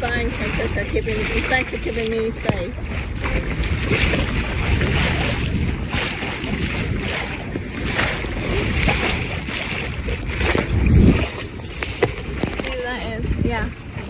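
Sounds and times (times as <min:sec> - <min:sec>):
water splashing along boat hull: 0:00.0 - 0:14.0
wind buffeting microphone: 0:00.0 - 0:14.0.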